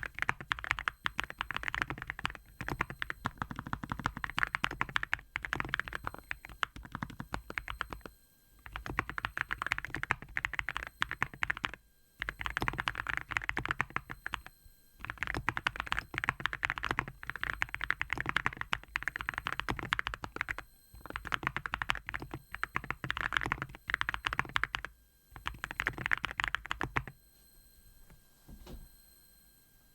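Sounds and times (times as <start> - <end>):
fast muted keyboard typing: 0.0 - 27.1.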